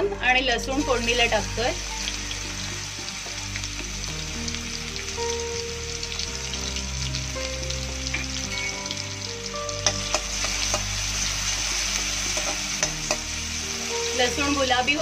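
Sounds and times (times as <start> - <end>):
garlic sizzling in hot oil: 0.1 - 15.0.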